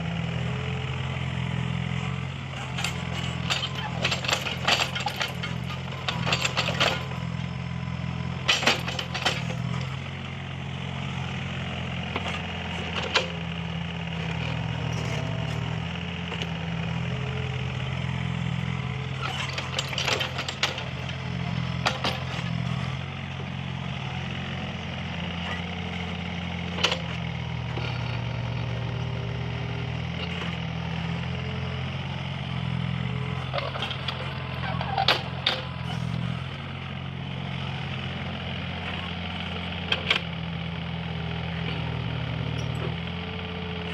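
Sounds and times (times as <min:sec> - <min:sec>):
excavator engine under load: 0:00.0 - 0:43.9.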